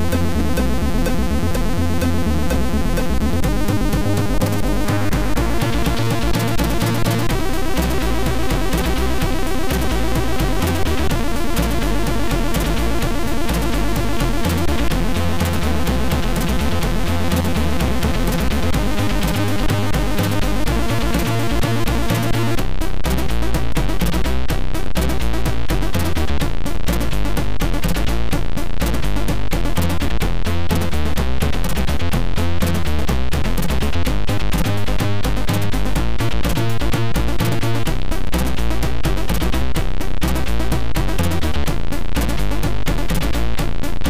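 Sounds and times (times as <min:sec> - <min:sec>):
rhythmic percussion hits: 0:00.0 - 0:43.6
chiptune music: 0:00.0 - 0:44.0.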